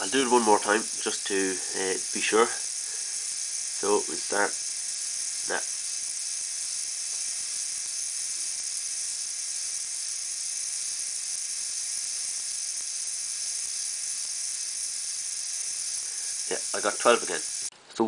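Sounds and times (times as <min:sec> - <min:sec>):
small gear motor whirring: 0:00.0 - 0:17.7.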